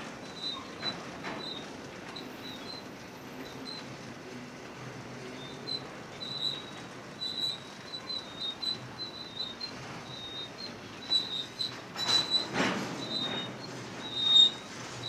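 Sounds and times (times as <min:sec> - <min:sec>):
steel wheels squeaking: 0:00.3 - 0:03.8, 0:05.4 - 0:15.0.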